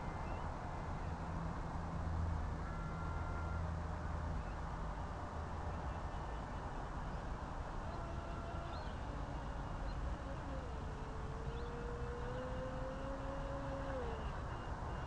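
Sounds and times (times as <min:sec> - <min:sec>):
faint distant whine: 0:00.0 - 0:15.0.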